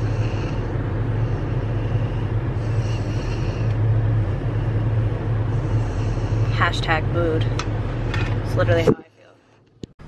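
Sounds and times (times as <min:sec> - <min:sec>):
car engine idling: 0:00.0 - 0:08.8.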